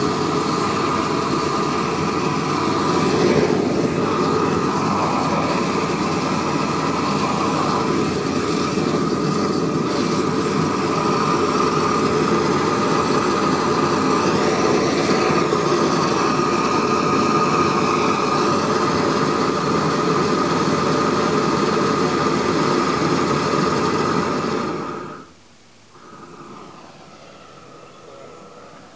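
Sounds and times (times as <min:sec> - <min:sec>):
faint steady whistle: 0:00.0 - 0:28.9
propane torch burning: 0:00.0 - 0:28.9.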